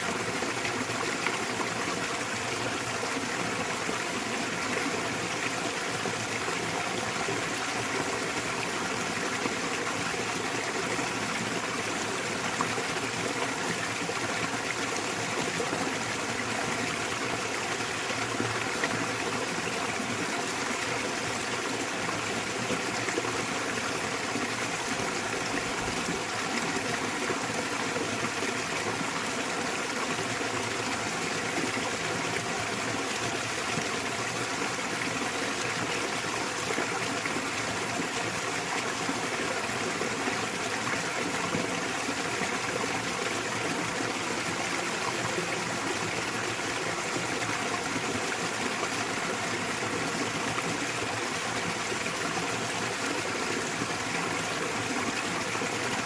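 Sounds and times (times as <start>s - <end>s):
waterfall pouring and splashing: 0.0s - 56.0s.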